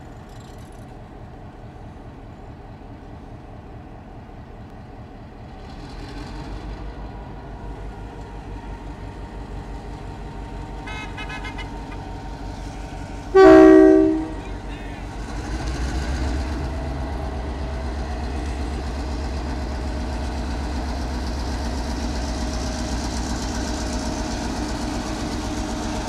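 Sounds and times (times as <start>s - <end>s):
locomotive diesel engine rumbling: 0.0s - 26.0s.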